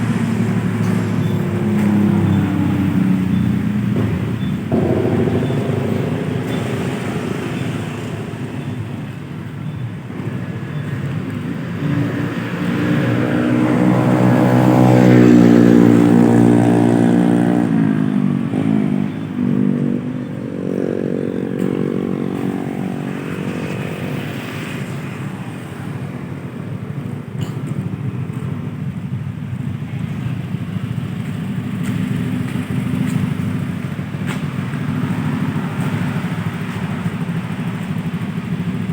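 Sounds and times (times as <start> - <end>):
scooter engine revving: 0.0 - 38.9.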